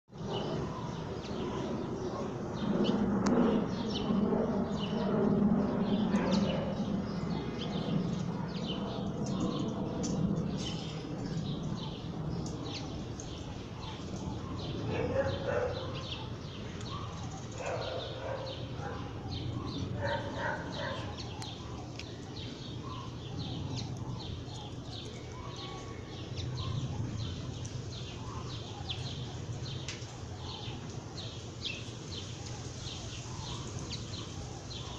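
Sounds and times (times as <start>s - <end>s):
small birds chirping: 0.2s - 34.9s.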